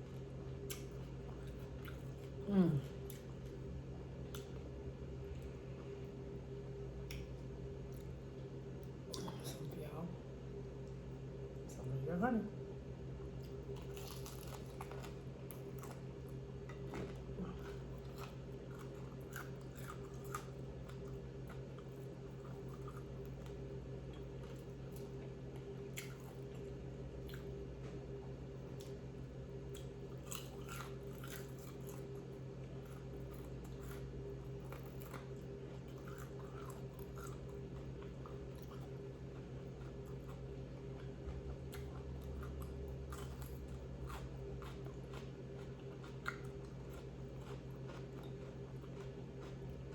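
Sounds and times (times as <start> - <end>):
person chewing crunchy food: 0.0 - 6.1, 13.4 - 27.6, 28.7 - 49.9
steady low hum: 0.0 - 49.9.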